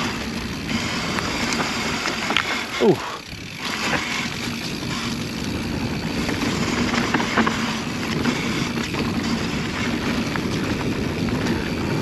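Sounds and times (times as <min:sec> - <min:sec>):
bike clicking and rattling: 0:00.0 - 0:12.0
knobby tyres rolling on dirt: 0:00.0 - 0:12.0.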